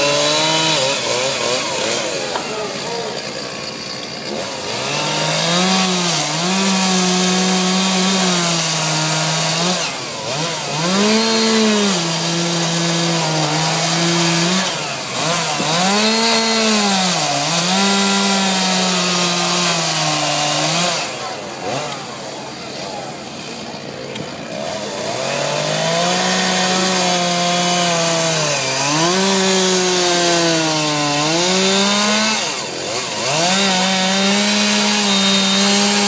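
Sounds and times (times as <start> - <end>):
chainsaw cutting log: 0.0 - 36.0.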